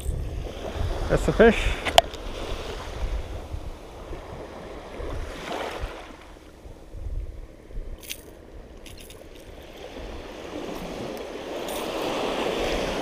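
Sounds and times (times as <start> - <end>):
small waves washing onto beach: 0.0 - 13.0
wind rumbling on microphone: 0.0 - 13.0.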